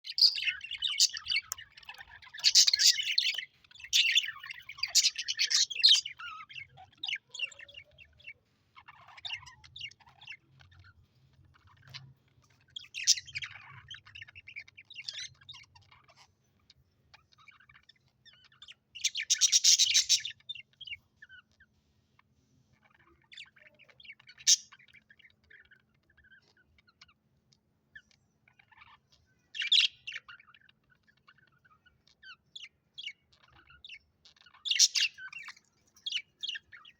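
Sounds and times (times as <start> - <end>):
budgerigars chirping: 0.1 - 21.7, 22.7 - 27.2, 27.9 - 36.9.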